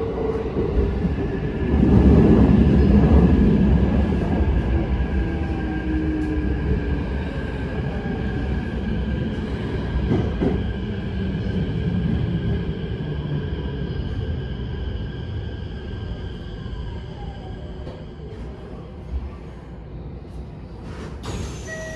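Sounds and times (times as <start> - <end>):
train wheels rumbling on rail: 0.0 - 19.7.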